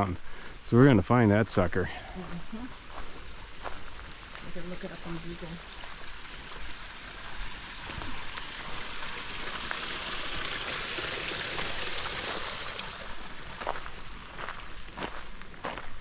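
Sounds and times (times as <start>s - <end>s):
running water: 0.7s - 15.5s.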